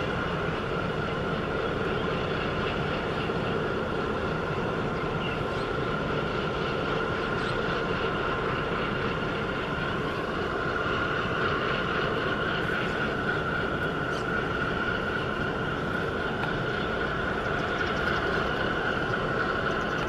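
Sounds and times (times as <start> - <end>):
ship machinery drone: 0.0 - 20.0.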